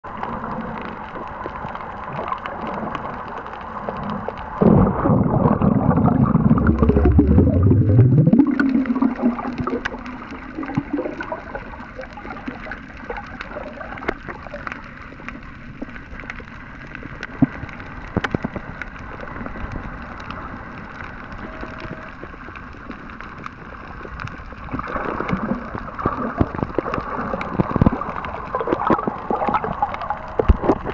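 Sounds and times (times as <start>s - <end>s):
gurgling rush of bubbles: 0.0s - 30.9s
muffled underwater hiss: 0.1s - 30.9s.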